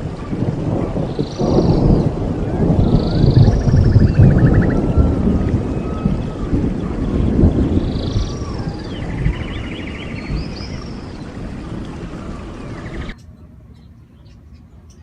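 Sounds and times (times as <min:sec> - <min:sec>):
low rumble: 0:00.0 - 0:14.1
birds chirping and whistling: 0:00.3 - 0:15.0.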